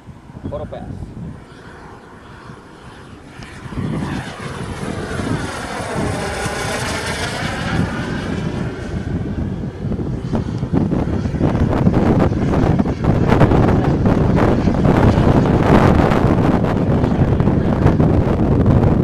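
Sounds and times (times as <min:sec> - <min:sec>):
model jet engine roaring: 0:00.0 - 0:19.0
swishing sweep of passing jet: 0:00.0 - 0:19.0.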